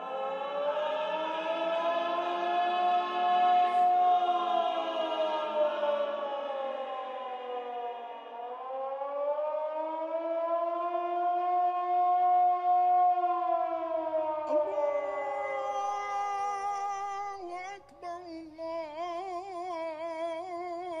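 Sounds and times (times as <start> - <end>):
air-raid siren wailing: 0.0 - 21.0.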